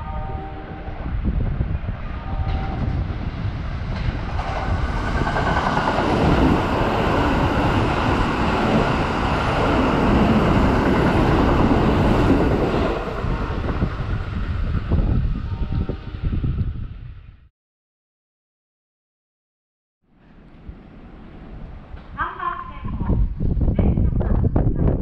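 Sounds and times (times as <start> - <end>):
train wheels rumbling on rail: 0.0 - 17.2, 20.2 - 25.0.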